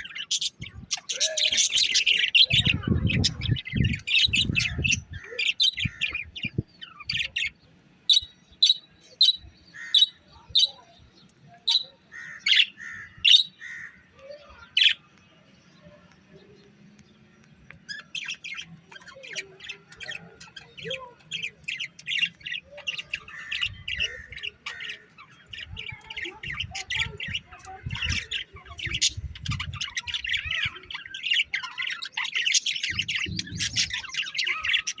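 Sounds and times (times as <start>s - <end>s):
small birds chirping and squawking: 0.0s - 35.0s.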